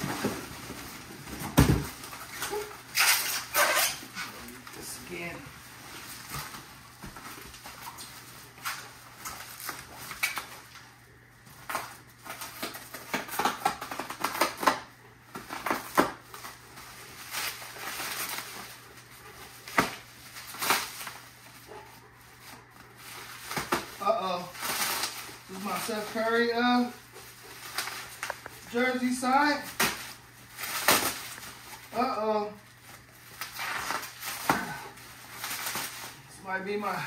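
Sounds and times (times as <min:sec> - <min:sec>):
plastic wrap crinkling and tearing: 0:00.0 - 0:10.9, 0:11.5 - 0:36.6.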